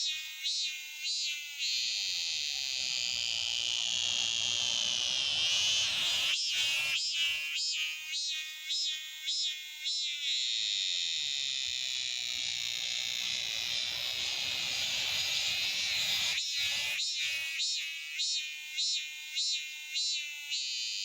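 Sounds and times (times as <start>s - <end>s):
cicada buzzing: 0.0s - 21.0s.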